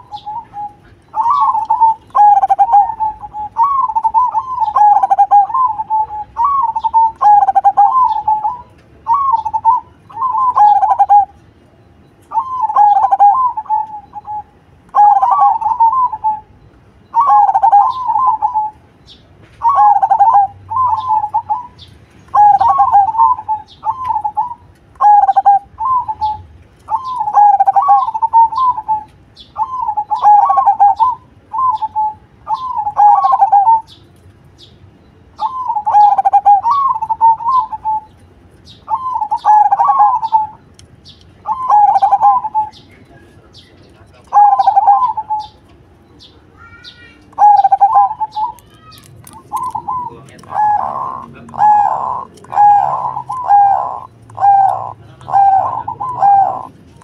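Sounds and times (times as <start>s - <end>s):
dove cooing: 0.0s - 11.4s, 12.3s - 18.8s, 19.6s - 34.0s, 35.4s - 40.7s, 41.4s - 45.7s, 46.6s - 57.0s.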